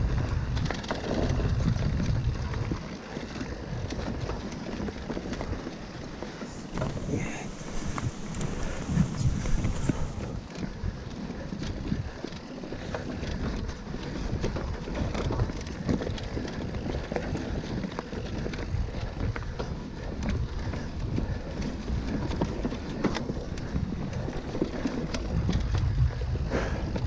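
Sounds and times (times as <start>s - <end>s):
bike knocking and rattling: 0.0s - 27.0s
tyres rolling on dirt: 0.0s - 27.0s.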